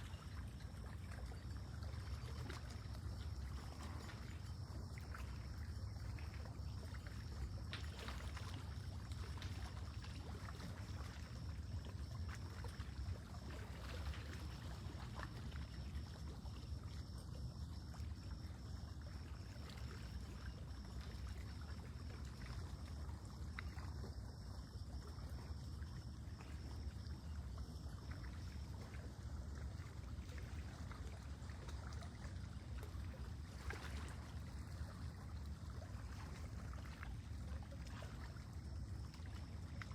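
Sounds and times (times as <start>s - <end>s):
water lapping against shore: 0.0s - 39.9s.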